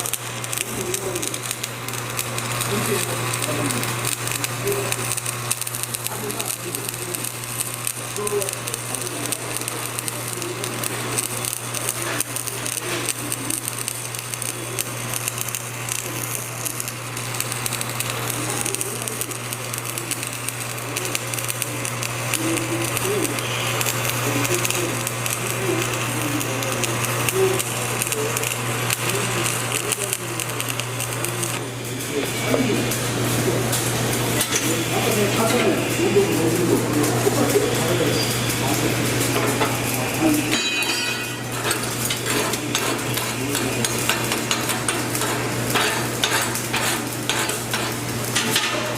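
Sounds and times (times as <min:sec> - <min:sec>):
electrical hum: 0:00.0 - 0:48.9
welding arc crackling: 0:00.0 - 0:48.9.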